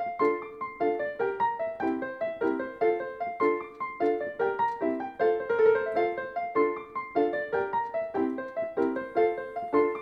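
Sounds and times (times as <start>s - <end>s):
background piano music: 0.0s - 10.0s.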